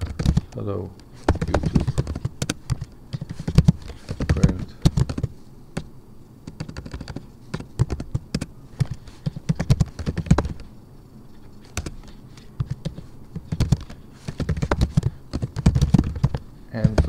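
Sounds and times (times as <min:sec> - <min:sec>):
typing on computer keyboard: 0:00.0 - 0:00.6, 0:01.3 - 0:10.6, 0:11.8 - 0:17.0.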